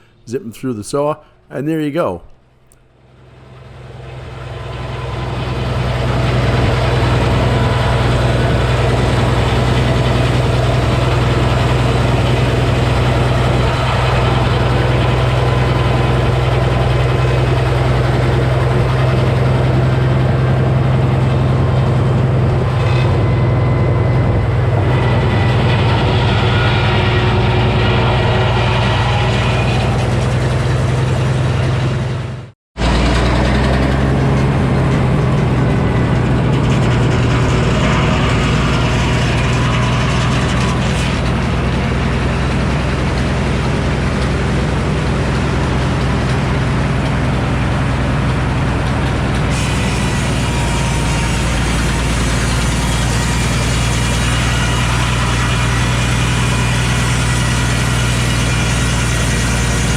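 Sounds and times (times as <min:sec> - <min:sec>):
sawmill running: 0:00.0 - 0:01.2, 0:02.0 - 0:59.9
engine low drone: 0:02.7 - 0:59.9.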